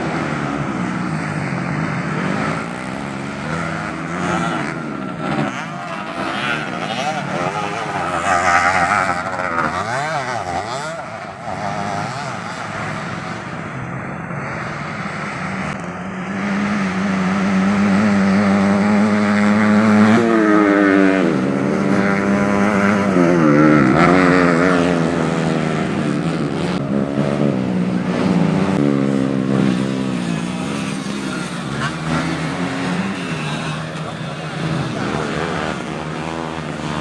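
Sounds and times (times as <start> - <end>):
motorcycles revving and passing by: 0.0 - 37.0.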